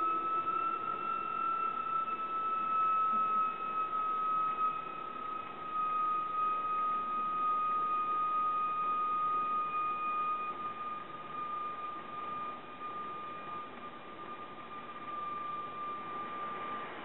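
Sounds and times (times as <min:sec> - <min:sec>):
theremin high tone: 0:00.0 - 0:17.0.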